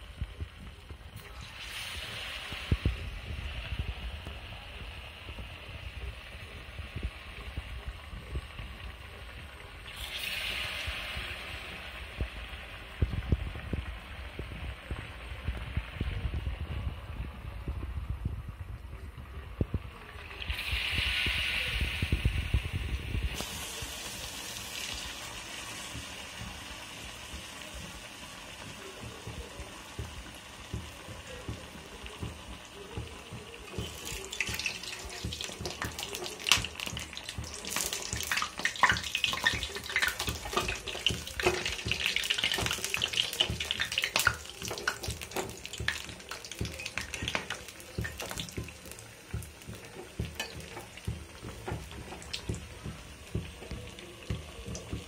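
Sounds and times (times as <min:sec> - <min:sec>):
oil sizzling and crackling: 0:00.0 - 0:55.0.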